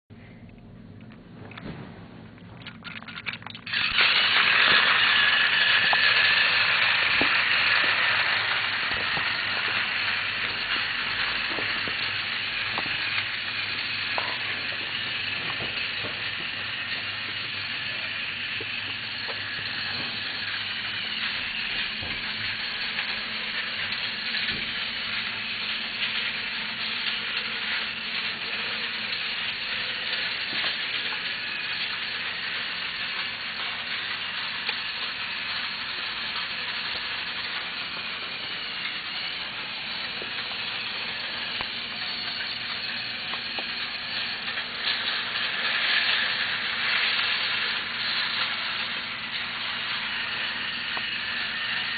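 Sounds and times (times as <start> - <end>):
toy train motors whirring: 2.9 - 51.9
plastic wheels clattering on track: 3.2 - 51.9.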